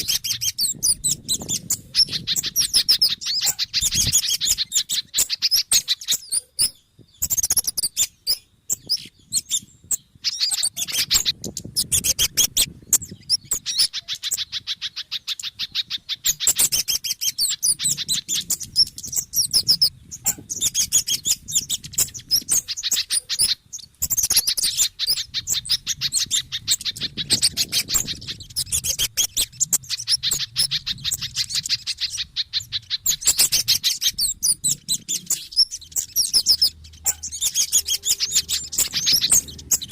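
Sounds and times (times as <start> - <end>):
songbird chips and twitters: 0.0 - 39.9.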